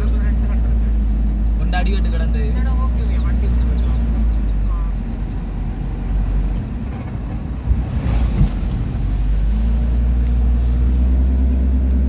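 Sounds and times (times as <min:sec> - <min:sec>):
motor vehicle running: 0:00.0 - 0:12.0.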